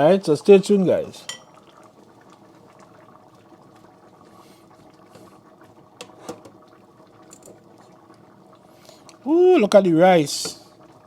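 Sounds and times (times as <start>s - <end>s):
pot simmering bubbling: 0.0s - 11.0s.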